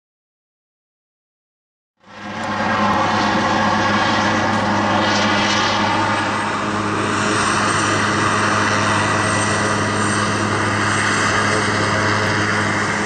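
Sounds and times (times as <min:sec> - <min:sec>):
helicopter engines whining: 0:02.0 - 0:13.0
helicopter rotor drone: 0:02.0 - 0:13.0.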